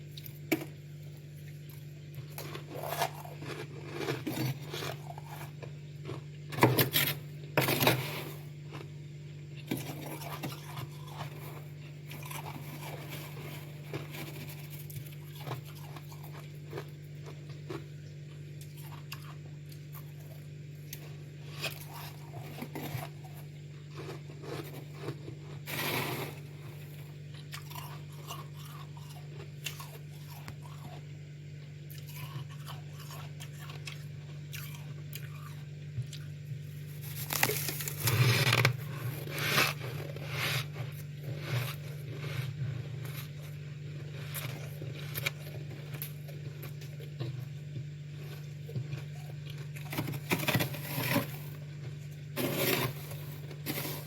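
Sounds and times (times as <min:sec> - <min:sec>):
frost crunching in chewing: 0:00.0 - 0:54.0
steady low hum: 0:00.0 - 0:54.0.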